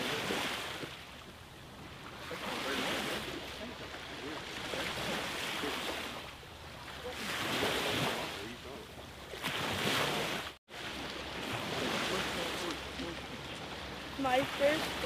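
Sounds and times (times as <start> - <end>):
small waves washing on shore: 0.0 - 15.0.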